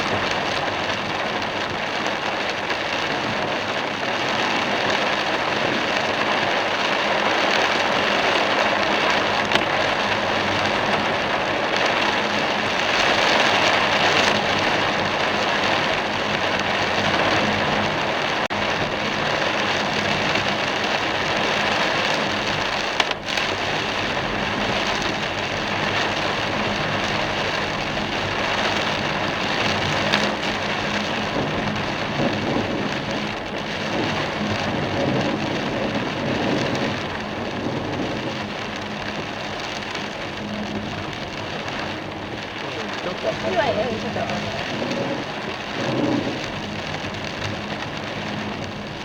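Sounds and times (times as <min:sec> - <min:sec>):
heavy rain drumming on car: 0:00.0 - 0:49.0
tyres hissing on wet road: 0:00.0 - 0:49.0.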